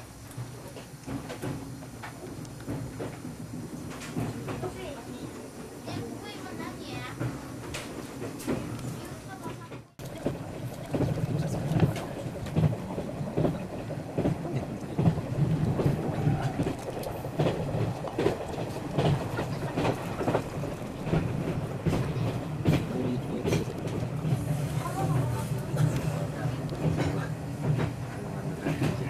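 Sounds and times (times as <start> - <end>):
train rumble inside car: 0.0 - 29.0
wheels clicking over track: 0.2 - 29.0.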